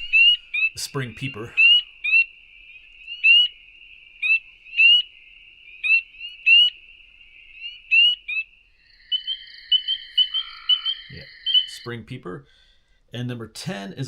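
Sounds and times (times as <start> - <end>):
spring peepers peeping: 0.0 - 12.6
frog chorus: 0.0 - 12.7.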